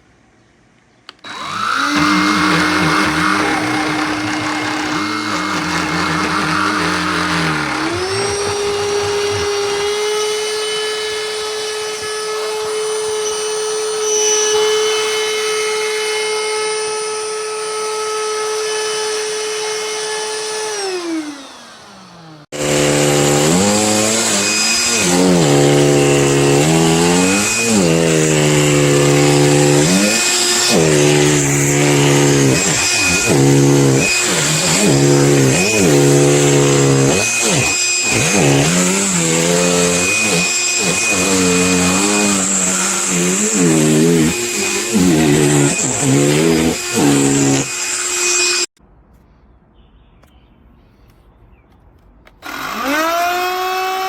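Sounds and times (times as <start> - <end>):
motor pitch rising and falling: 1.1 - 48.7
handheld vacuum motor whine: 1.1 - 48.8, 52.4 - 54.0.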